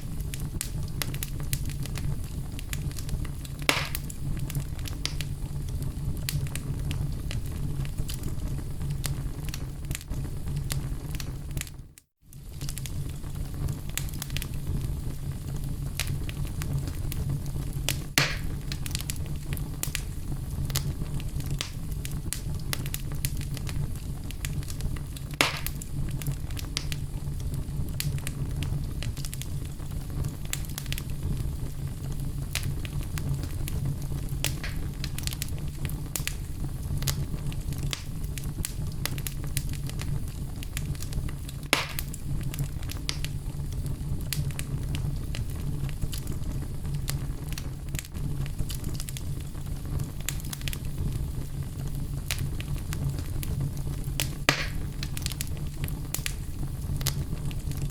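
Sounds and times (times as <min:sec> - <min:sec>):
fire rumbling: 0:00.0 - 0:57.9
wood fire crackling and popping: 0:00.0 - 0:57.9.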